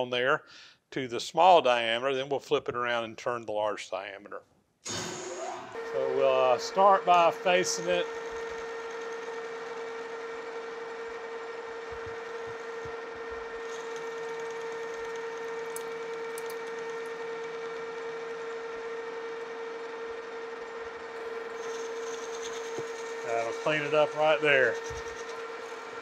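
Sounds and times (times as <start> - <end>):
metal lathe running: 4.9 - 26.0.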